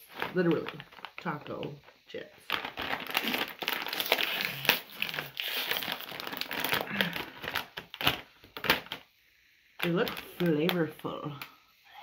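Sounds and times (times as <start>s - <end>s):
plastic bag crinkling: 0.0s - 9.1s, 9.8s - 11.0s.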